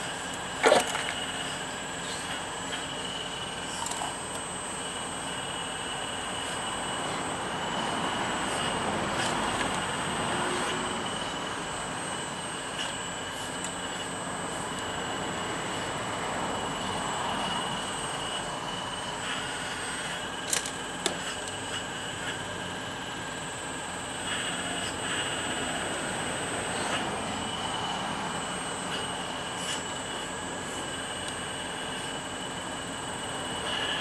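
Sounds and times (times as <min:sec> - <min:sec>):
model excavator whine: 0:00.0 - 0:34.0.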